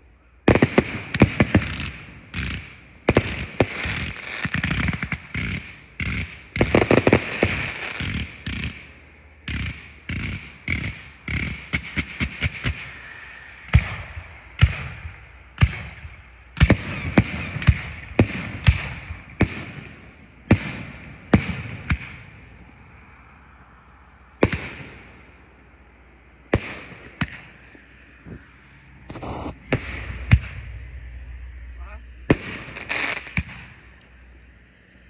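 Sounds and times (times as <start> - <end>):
fireworks bangs: 0.4 - 22.5, 24.4 - 25.5, 26.5 - 34.0.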